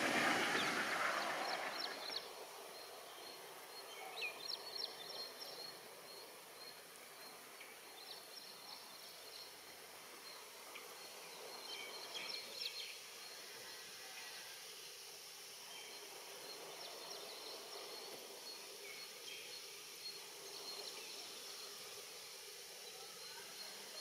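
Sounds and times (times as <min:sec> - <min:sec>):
faint steady background hiss: 0:00.0 - 0:24.0.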